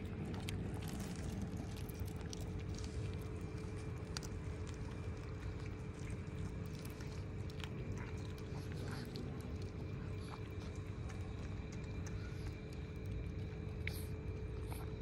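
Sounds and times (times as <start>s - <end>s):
cats chewing: 0.0s - 15.0s
steady low hum: 0.0s - 15.0s.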